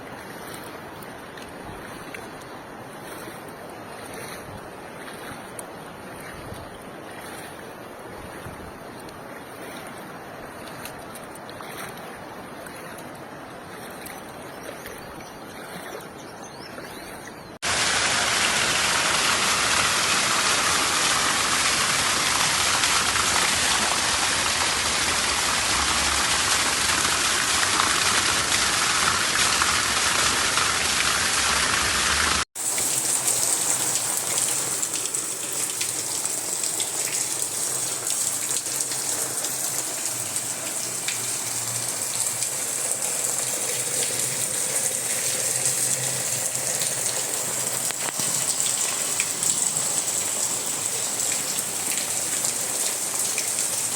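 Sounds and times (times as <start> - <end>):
running water or rain: 0.0 - 53.9.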